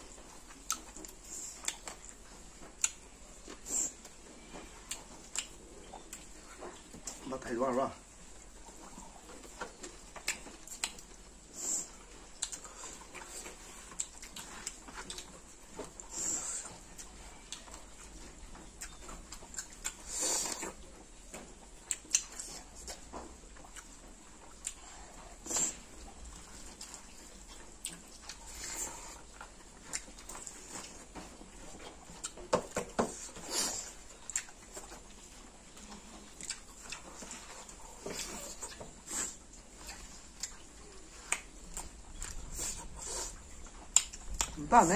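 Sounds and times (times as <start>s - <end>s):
wet chewing: 0.0s - 7.4s, 8.0s - 44.9s.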